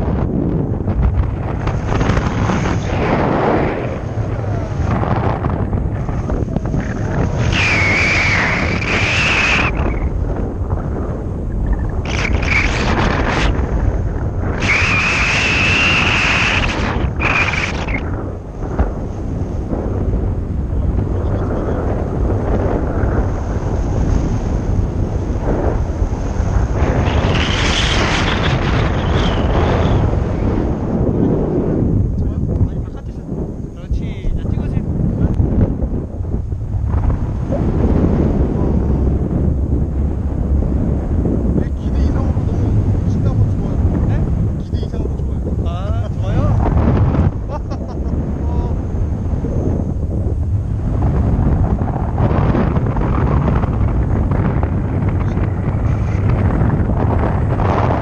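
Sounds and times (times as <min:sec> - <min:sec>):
heavy wind buffeting microphone: 0:00.0 - 0:58.0.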